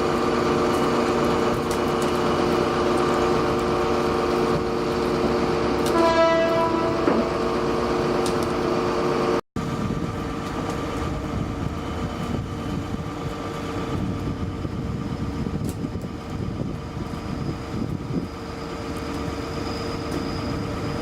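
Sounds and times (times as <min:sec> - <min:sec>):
heavy truck engine running: 0:00.0 - 0:21.0.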